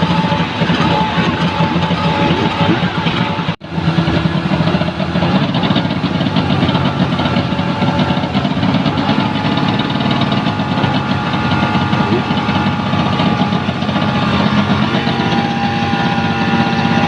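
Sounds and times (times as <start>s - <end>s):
pump engine running steadily: 0.0s - 17.0s.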